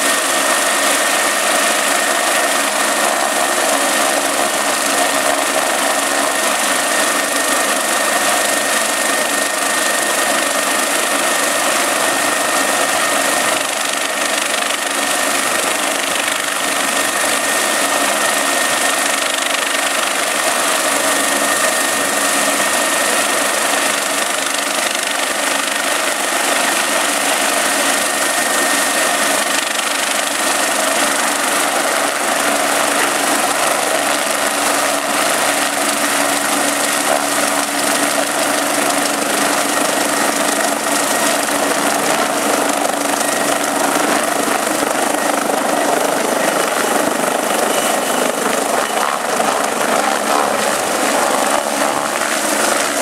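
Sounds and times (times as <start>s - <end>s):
helicopter rotor running: 0.0s - 53.0s
turbine engine high whine: 0.0s - 53.0s.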